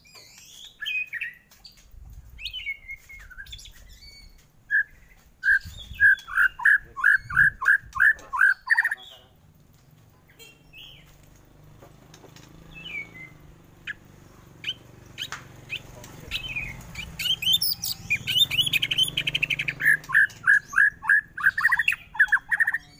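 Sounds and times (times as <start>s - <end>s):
bird singing: 0.0s - 9.4s, 10.2s - 22.9s.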